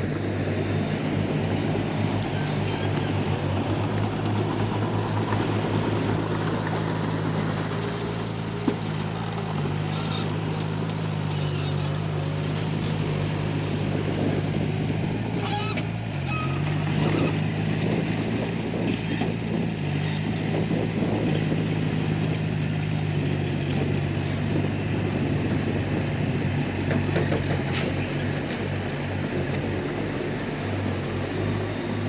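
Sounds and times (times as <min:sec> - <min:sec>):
bulldozer diesel engine: 0:00.0 - 0:32.0.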